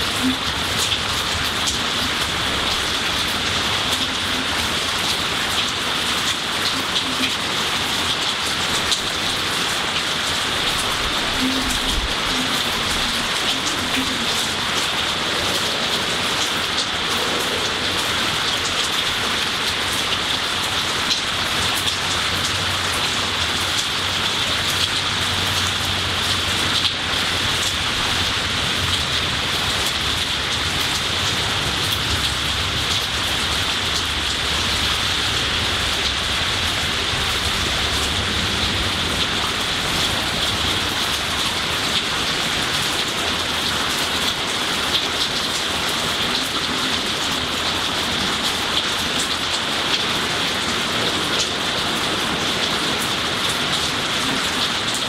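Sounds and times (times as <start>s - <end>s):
raindrops ticking close by: 0.0s - 55.0s
steady rain hiss: 0.0s - 55.0s.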